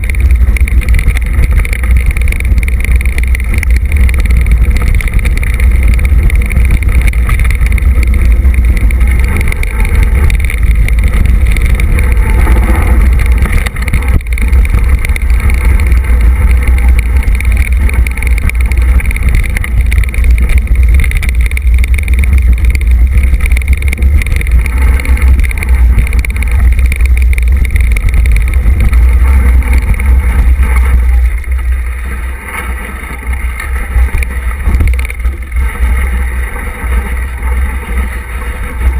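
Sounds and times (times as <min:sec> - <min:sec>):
bike rattling over ground: 0:00.0 - 0:38.9
wind rumble on microphone: 0:00.0 - 0:38.9.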